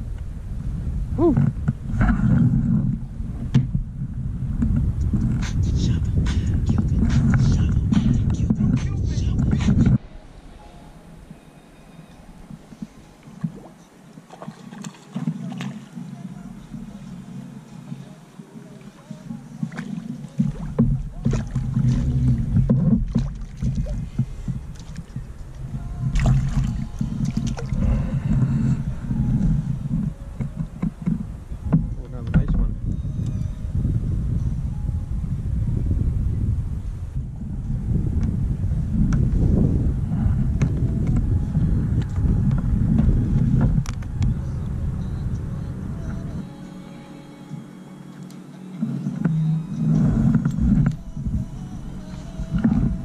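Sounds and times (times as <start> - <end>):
wind buffeting microphone: 0.0 - 11.4, 19.2 - 46.6, 49.2 - 53.0
steady low rumble: 0.0 - 14.3, 15.8 - 47.7, 48.8 - 53.0.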